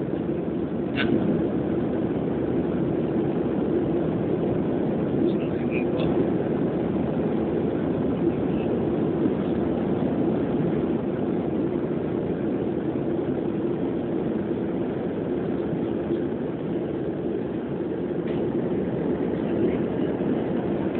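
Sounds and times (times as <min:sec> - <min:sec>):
airliner cabin jet engine drone: 0:00.0 - 0:20.9
low hum: 0:00.0 - 0:20.9.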